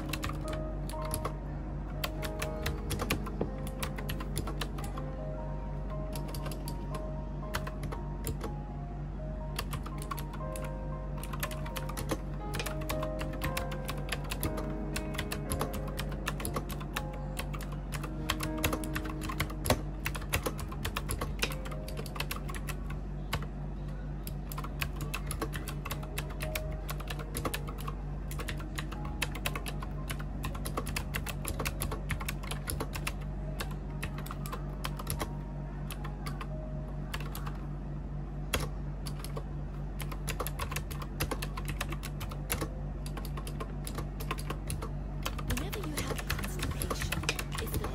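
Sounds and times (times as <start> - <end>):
fast typing on keyboard: 0.0 - 1.4, 2.0 - 5.0, 5.9 - 8.5, 9.6 - 23.5, 24.3 - 37.6, 38.5 - 39.4, 40.0 - 47.9
soft background music: 0.0 - 47.9.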